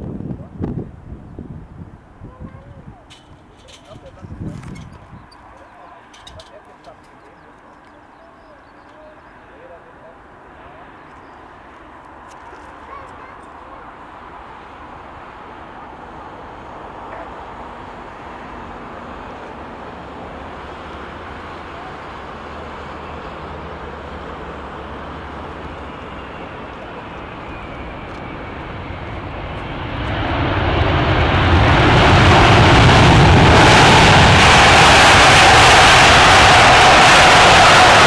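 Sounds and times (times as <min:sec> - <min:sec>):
distant jet engines rumble: 0:00.0 - 0:38.0.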